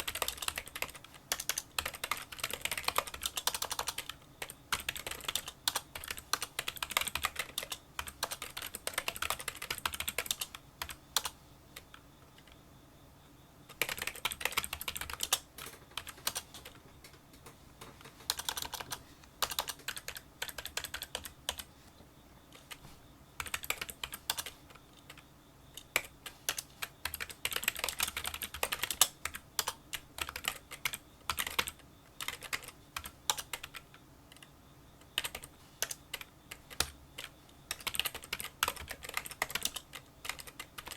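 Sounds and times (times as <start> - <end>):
fast typing on keyboard: 0.0 - 12.6, 13.7 - 21.7, 23.4 - 25.2, 25.8 - 34.5, 35.1 - 40.9.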